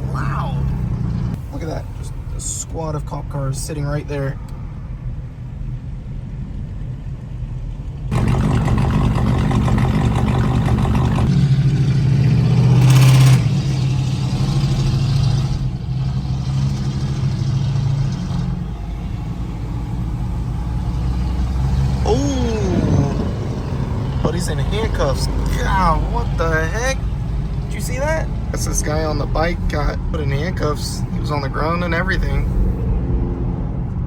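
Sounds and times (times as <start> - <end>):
car engine: 0.0 - 34.0
road noise: 0.0 - 34.0.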